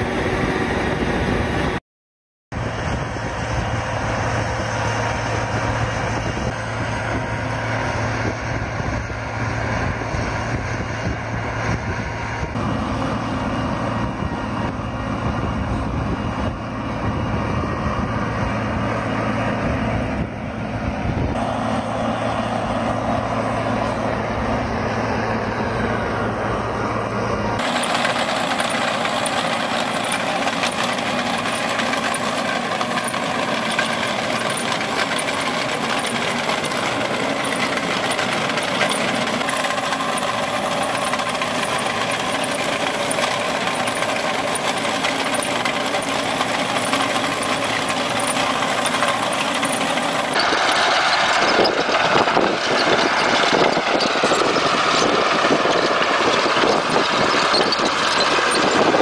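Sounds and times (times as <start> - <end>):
tracked trencher working: 0.0 - 1.8, 2.6 - 59.0
trencher engine running under load: 0.0 - 1.8, 2.6 - 59.0.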